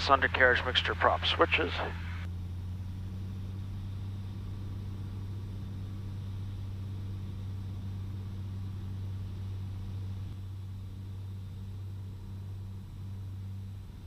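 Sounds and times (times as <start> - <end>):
aircraft engine and propeller droning: 0.0 - 14.0.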